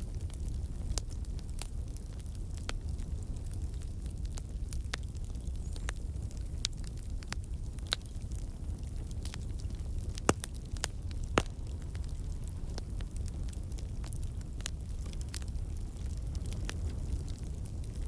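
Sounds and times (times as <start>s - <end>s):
campfire crackling and popping: 0.0s - 18.0s
low rumble of fire: 0.0s - 18.0s.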